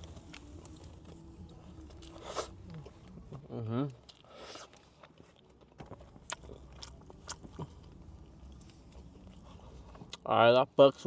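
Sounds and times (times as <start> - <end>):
chewing food: 0.0 - 10.3.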